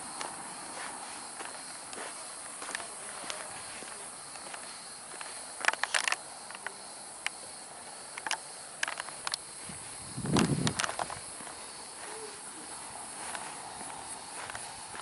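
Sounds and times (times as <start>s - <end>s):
footsteps on gravel: 0.0s - 6.2s, 8.9s - 15.0s
insects droning: 0.0s - 15.0s.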